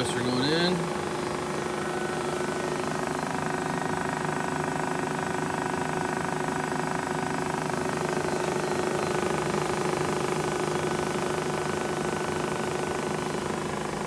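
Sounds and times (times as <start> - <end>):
grinder machine hum: 0.0 - 14.0.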